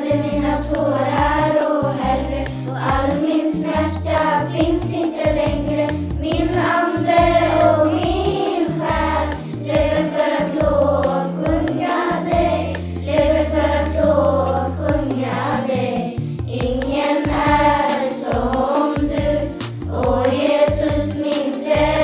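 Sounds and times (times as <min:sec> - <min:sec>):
group singing a hymn: 0:00.0 - 0:22.0
instrumental backing with beat: 0:00.0 - 0:22.0.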